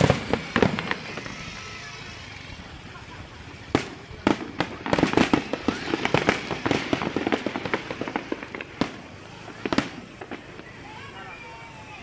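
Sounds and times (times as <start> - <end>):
fireworks bangs: 0.0 - 11.8
fireworks crackling barrage: 0.0 - 12.0.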